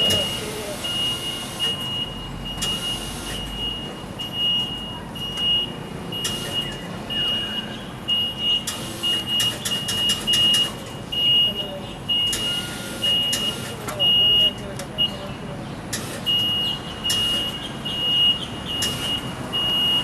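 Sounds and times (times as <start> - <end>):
street and engine noise: 0.0 - 20.0
vehicle back-up alarm beeping: 0.0 - 20.0.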